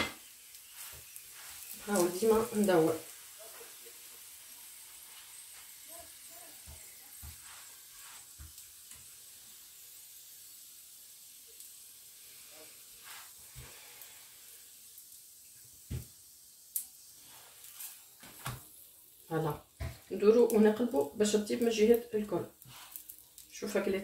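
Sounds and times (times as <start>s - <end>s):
flatbread sizzling on griddle: 0.0s - 24.0s.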